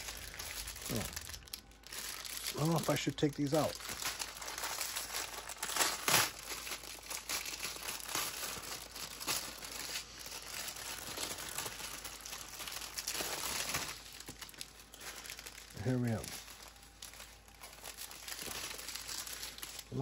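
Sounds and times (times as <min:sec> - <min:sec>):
plastic wrapping crinkling: 0:00.0 - 0:20.0.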